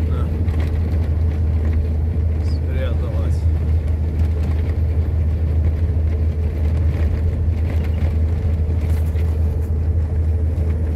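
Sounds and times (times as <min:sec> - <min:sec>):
car engine and road rumble: 0:00.0 - 0:10.9.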